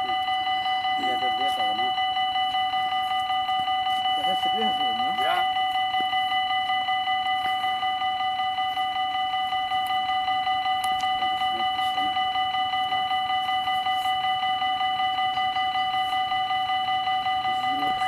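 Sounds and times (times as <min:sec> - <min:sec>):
level crossing warning bells: 0:00.0 - 0:18.0.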